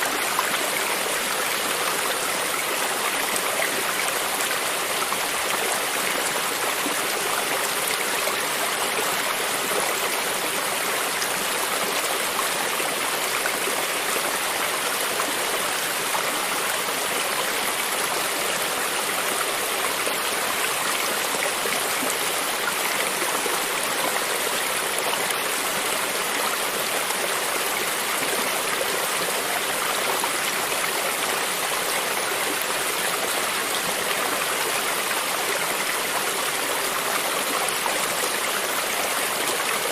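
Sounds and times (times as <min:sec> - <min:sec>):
creek water gurgling over stones: 0:00.0 - 0:39.9.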